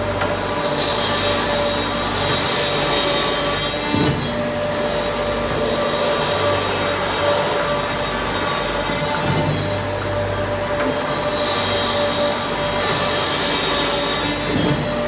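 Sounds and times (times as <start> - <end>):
wood shaving machine running: 0.0 - 15.0.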